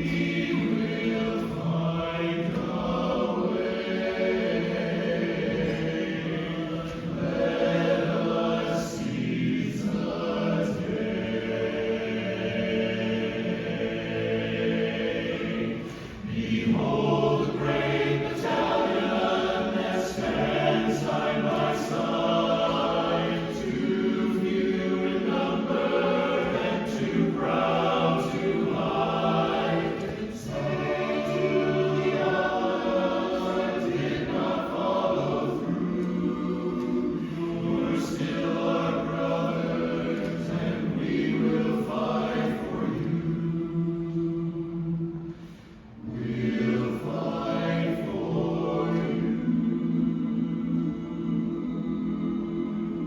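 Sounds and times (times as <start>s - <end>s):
choir singing in harmony: 0.0s - 53.0s.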